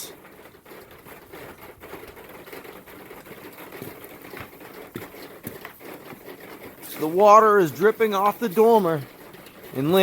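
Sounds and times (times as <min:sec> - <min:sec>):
water dripping on gutter cover: 0:00.0 - 0:10.0.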